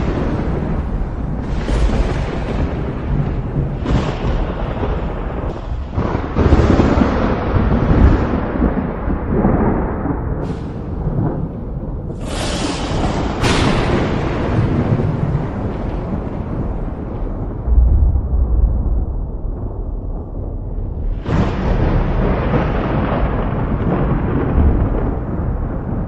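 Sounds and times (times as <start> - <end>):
thunder rumbling and cracking: 0.0 - 26.0.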